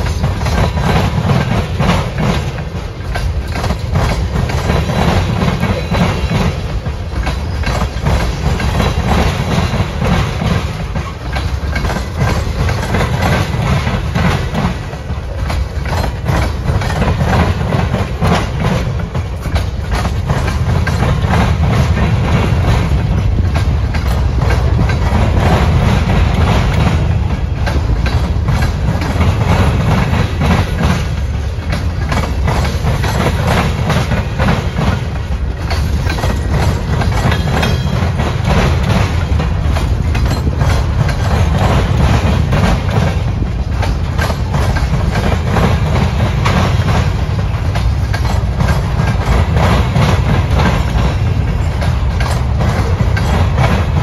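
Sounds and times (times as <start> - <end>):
train wheels rumbling on rail: 0.0 - 54.0
wheels clacking over track: 0.0 - 54.0.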